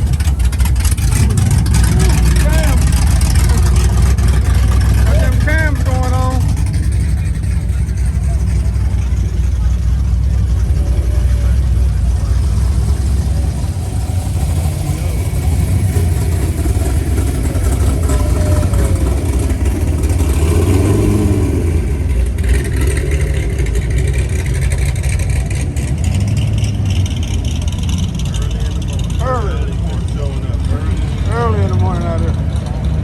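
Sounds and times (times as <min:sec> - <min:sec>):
car engines rumbling: 0:00.0 - 0:33.0.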